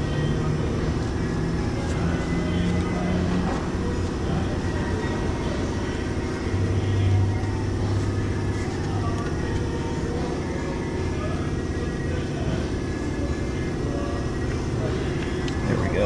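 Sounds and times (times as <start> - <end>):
machine droning: 0.0 - 16.0.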